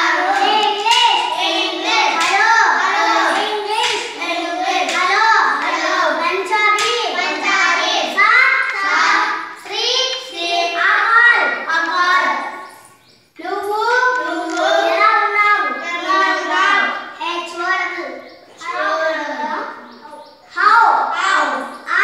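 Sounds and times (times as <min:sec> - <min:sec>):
children chanting together: 0:00.0 - 0:22.0.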